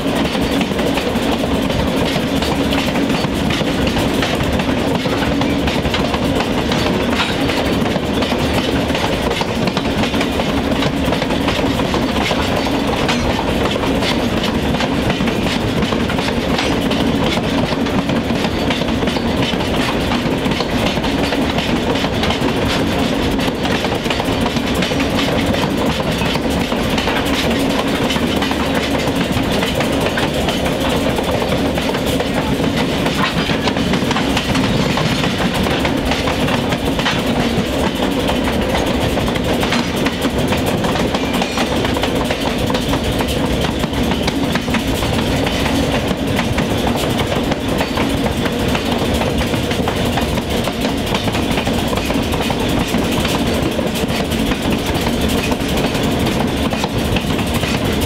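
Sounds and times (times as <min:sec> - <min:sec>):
train engine drone: 0:00.0 - 0:58.0
wheel clicks on rails: 0:00.2 - 0:58.0.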